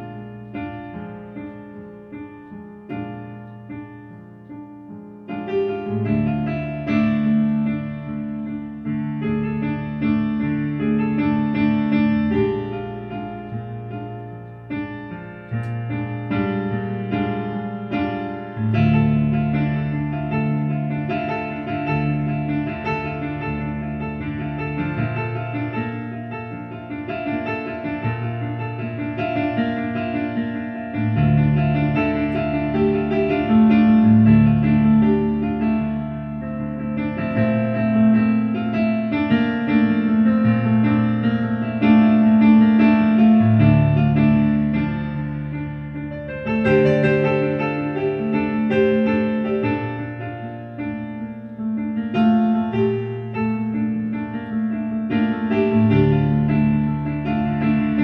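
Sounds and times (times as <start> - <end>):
slow piano chords: 0.0 - 58.0.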